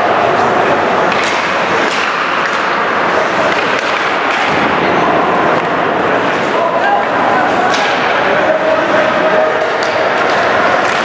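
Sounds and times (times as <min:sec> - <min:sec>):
din of spectators' voices: 0:00.0 - 0:11.0
hockey sticks and puck knocking: 0:00.2 - 0:11.0.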